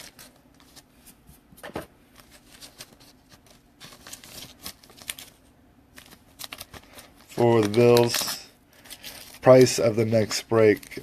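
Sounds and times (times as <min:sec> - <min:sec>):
cards being handled: 0:00.0 - 0:11.0.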